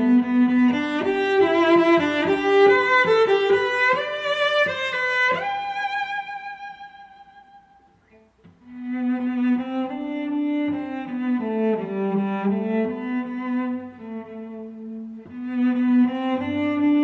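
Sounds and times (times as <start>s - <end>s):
bowed string melody: 0.0s - 17.0s.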